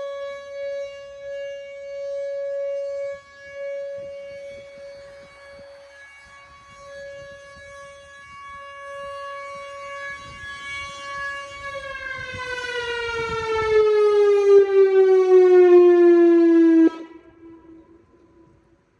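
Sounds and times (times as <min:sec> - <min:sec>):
tornado siren winding down: 0:00.0 - 0:18.9.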